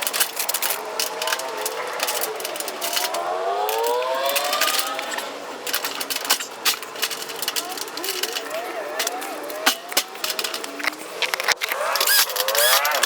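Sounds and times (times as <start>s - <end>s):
parts clicking and knocking: 0.0s - 13.0s.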